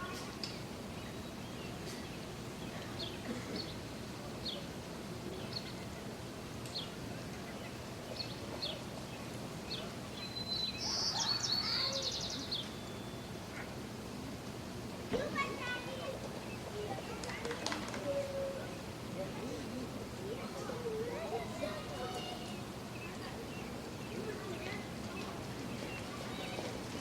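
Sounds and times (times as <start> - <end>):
small birds chirping: 0.0 - 13.8, 15.4 - 19.5, 20.3 - 27.0
steady outdoor hiss: 0.0 - 27.0.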